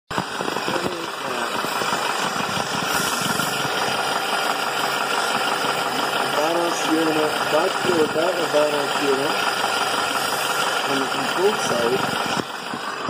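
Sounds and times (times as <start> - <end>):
car engine running: 0.1 - 13.0
continuous engine rattle: 0.1 - 13.0.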